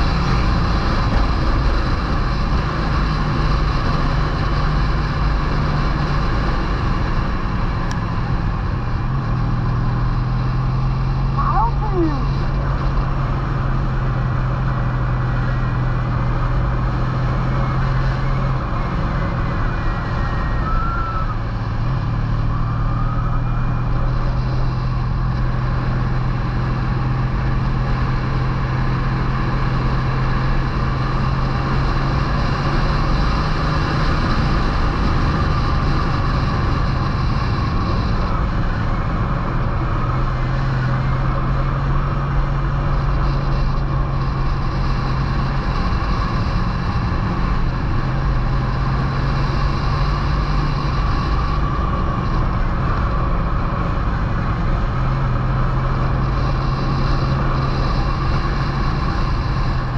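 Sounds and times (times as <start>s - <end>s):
motorcycle engine cruising: 0.0s - 59.9s
wind and road noise: 0.0s - 59.9s.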